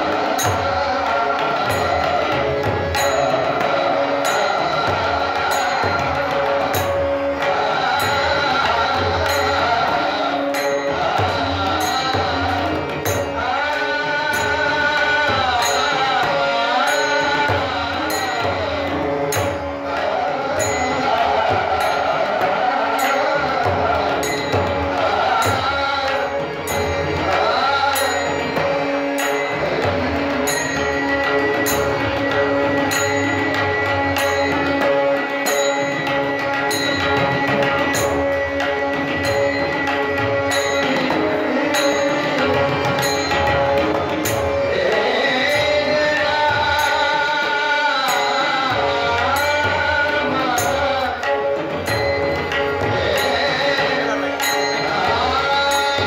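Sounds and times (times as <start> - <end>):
devotional music with drumming: 0.0 - 56.0
person singing: 0.0 - 56.0.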